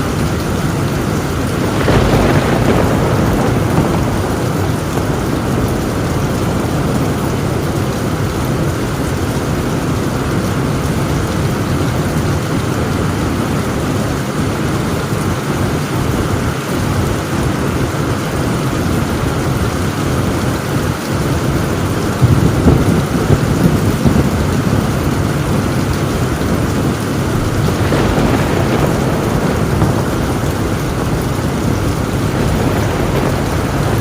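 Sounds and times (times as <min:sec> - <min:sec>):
rain drumming on a tin roof: 0:00.0 - 0:34.0
thunder rumble: 0:00.0 - 0:34.0.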